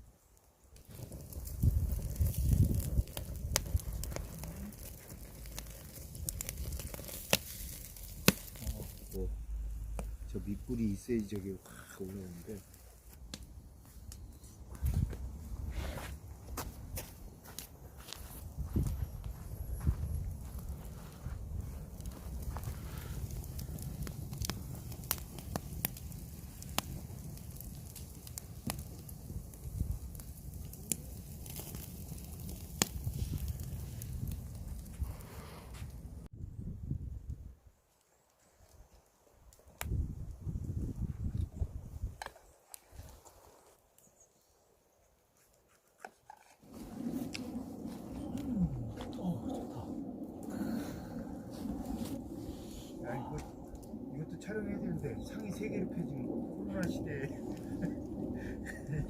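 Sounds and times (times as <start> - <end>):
low rumble of fire: 0.0 - 44.6, 46.3 - 59.0
wood fire crackling and popping: 0.3 - 36.3, 37.9 - 44.2, 45.9 - 59.0.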